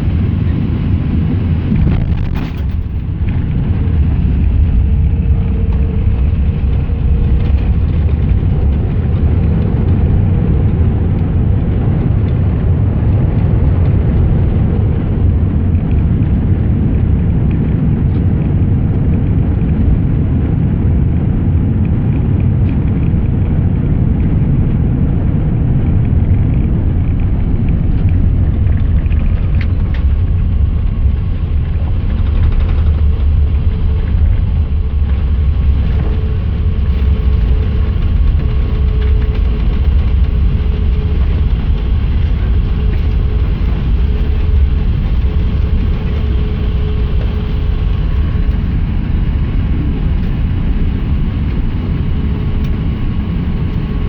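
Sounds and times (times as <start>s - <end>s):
airplane cabin low rumble: 0.0s - 54.0s.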